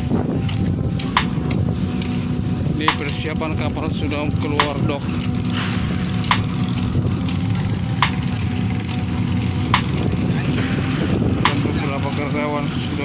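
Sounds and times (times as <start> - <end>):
diesel air compressors droning: 0.0 - 13.0.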